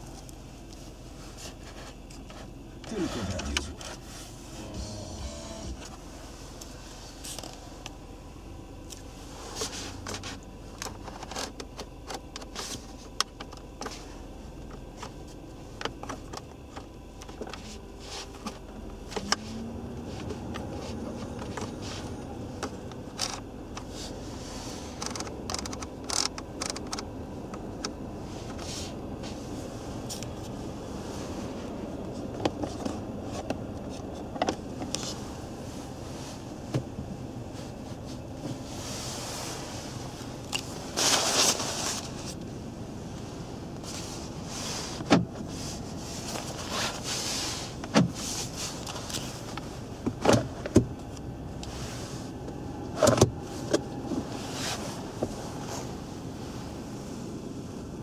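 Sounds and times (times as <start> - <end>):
ventilation fan hum: 0.0 - 58.0.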